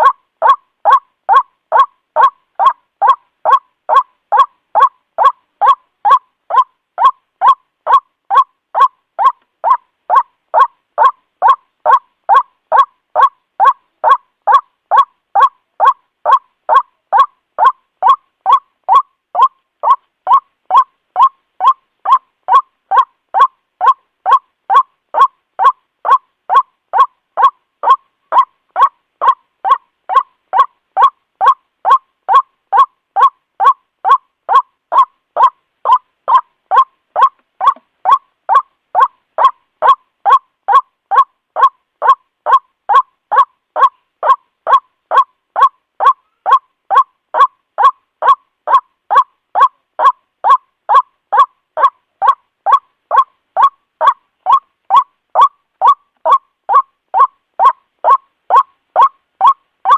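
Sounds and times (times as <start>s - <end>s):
waterhen calling: 0.0s - 59.9s.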